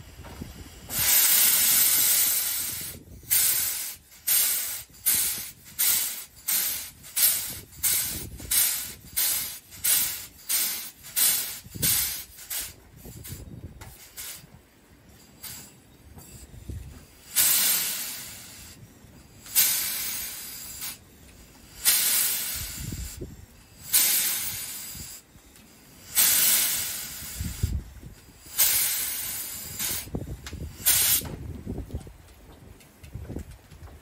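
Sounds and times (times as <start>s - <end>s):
steam hissing bursts: 0.0s - 31.4s.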